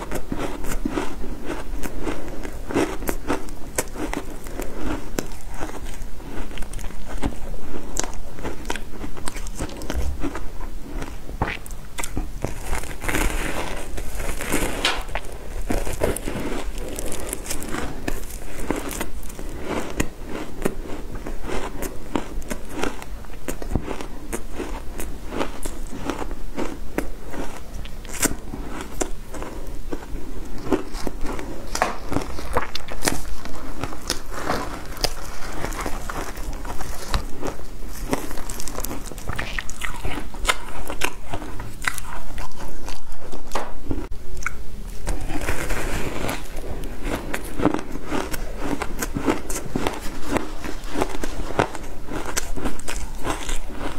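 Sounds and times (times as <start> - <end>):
biting and crunching shaved ice: 0.0 - 53.9.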